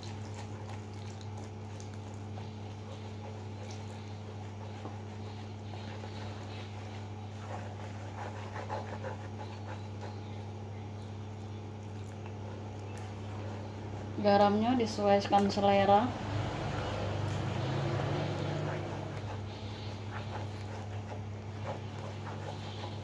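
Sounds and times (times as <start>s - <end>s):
hand squishing batter in bowl: 0.0s - 23.0s
steady low hum: 0.0s - 23.0s.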